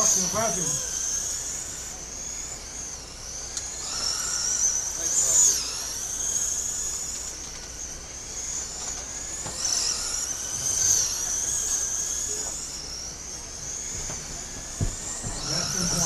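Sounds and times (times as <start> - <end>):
rc car motor whine: 0.0 - 16.0.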